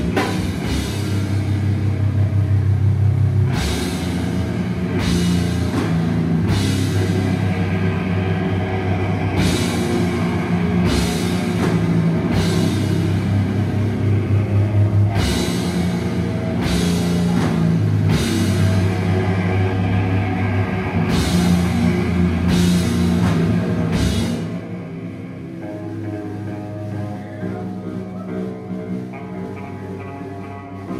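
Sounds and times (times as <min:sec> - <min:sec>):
distorted electric guitars: 0:00.0 - 0:30.9
driving drum kit: 0:00.0 - 0:30.9.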